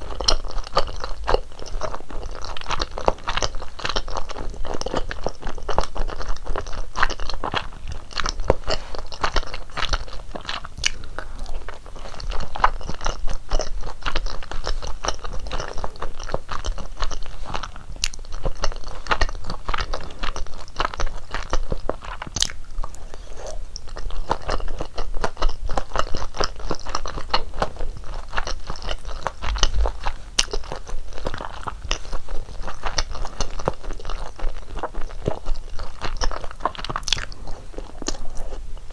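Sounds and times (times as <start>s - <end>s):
wet chewing mouth sounds: 0.0s - 38.9s.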